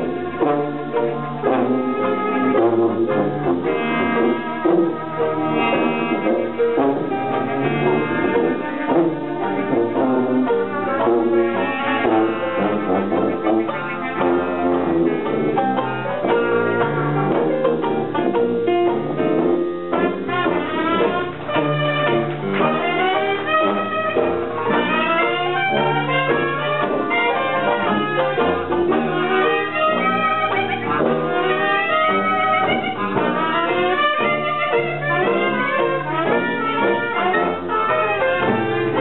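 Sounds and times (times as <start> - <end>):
jazz band playing: 0.0 - 39.0
sliding brass notes: 0.0 - 39.0.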